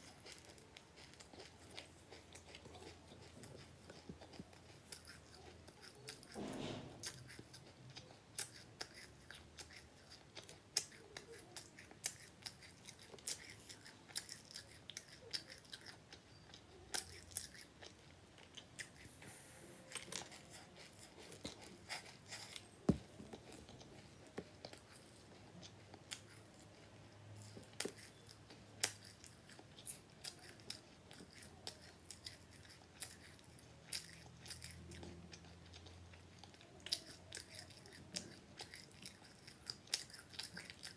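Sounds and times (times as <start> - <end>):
person chewing crunchy seeds: 0.0 - 6.4, 7.0 - 40.9.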